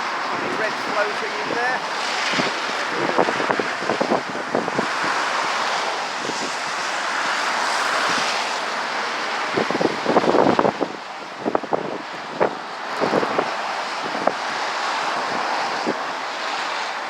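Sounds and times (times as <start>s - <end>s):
fast-flowing floodwater rushing: 0.0s - 17.0s
wind buffeting microphone: 0.0s - 17.0s.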